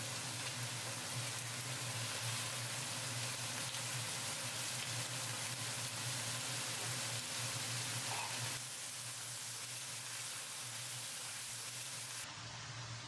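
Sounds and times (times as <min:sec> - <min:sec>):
meat sizzling in a frying pan: 0:00.0 - 0:12.3.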